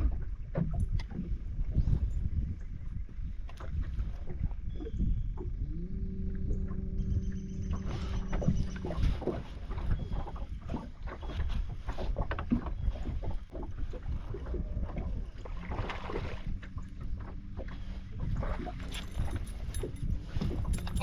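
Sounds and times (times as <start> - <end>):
water slapping against boat hull: 0.0 - 5.6, 7.7 - 21.0
wind on microphone: 0.0 - 21.0.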